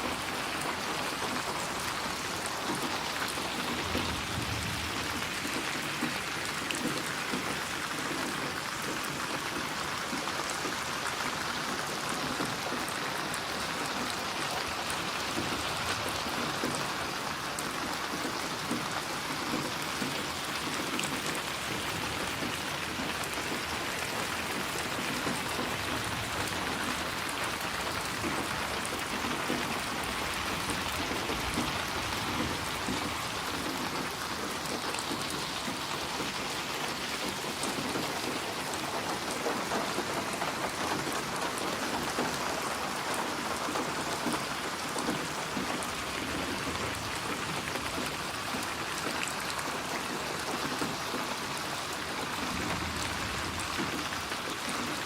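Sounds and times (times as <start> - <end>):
rain falling: 0.0 - 55.0
rain patters on surfaces: 0.0 - 55.0.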